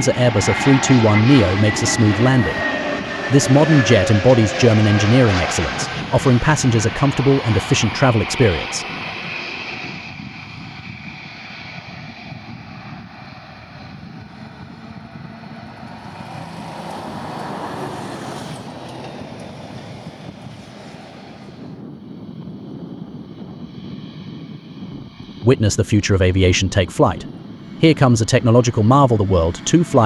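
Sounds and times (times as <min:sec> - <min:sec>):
jet airliner landing: 0:00.0 - 0:30.0.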